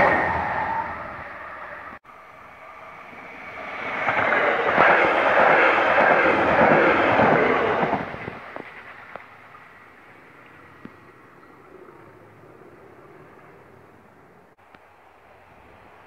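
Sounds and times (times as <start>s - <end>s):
train passing wheel noise: 0.0s - 16.0s.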